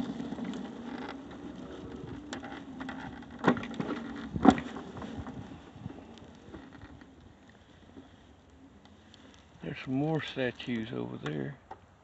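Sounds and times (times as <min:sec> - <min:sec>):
faint steady buzz: 0:00.0 - 0:11.5.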